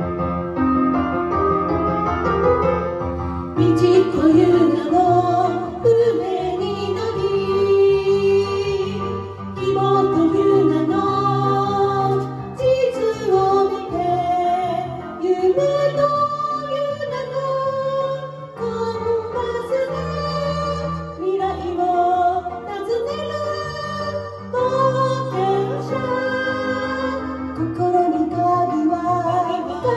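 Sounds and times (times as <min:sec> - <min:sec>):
karaoke backing track: 0:00.0 - 0:29.9
women singing duet: 0:03.6 - 0:29.9.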